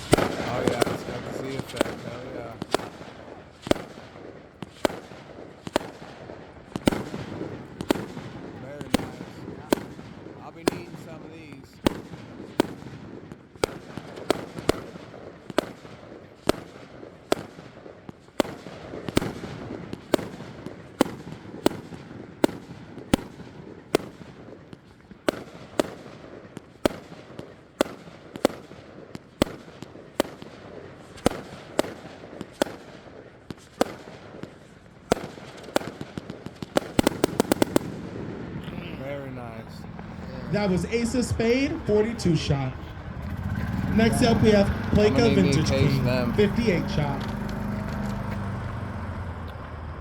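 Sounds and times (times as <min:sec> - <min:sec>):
fireworks cake sharp bangs: 0:00.0 - 0:48.6.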